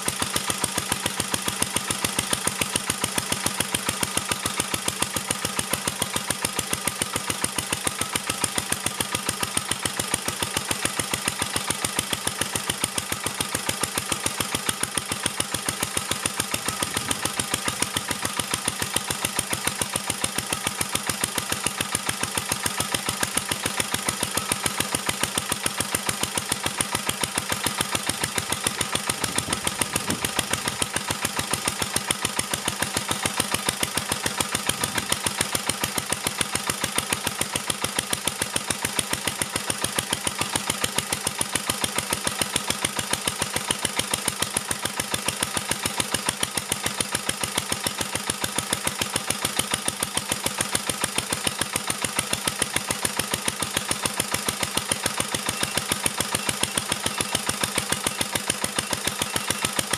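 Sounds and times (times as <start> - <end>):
stationary engine running: 0.0 - 59.9.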